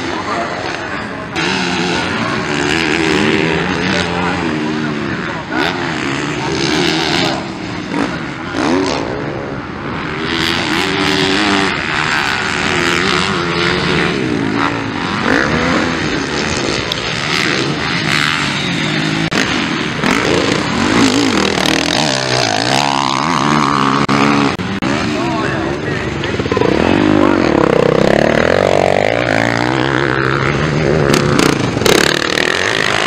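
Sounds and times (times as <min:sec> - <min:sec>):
motocross engines revving: 0:00.0 - 0:33.0.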